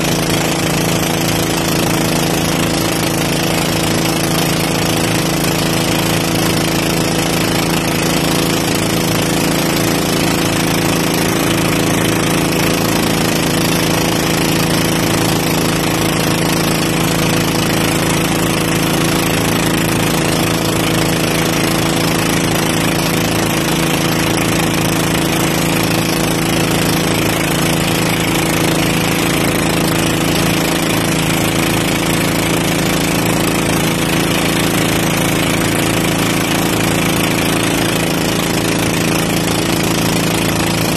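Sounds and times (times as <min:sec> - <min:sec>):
boat engine running: 0:00.0 - 0:40.9
water rushing along hull: 0:00.0 - 0:40.9.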